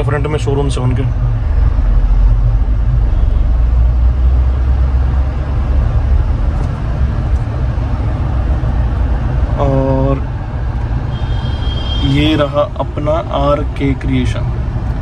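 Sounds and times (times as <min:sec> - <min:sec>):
suv engine and road rumble: 0:00.0 - 0:15.0.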